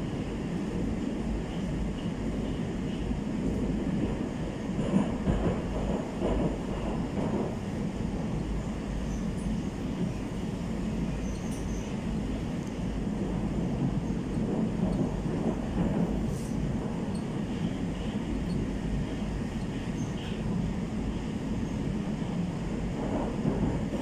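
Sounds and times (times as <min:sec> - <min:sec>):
metro train rumbling in tunnel: 0:00.0 - 0:24.0.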